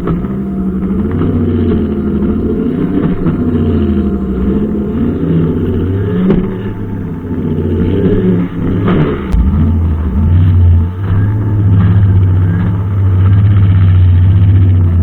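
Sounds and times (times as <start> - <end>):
brushcutter engine running: 0.0 - 15.0.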